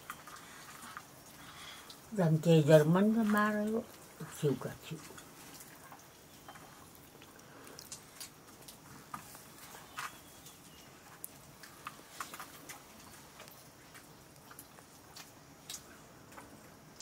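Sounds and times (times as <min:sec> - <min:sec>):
soft chewing: 0:00.0 - 0:02.1, 0:03.2 - 0:17.0.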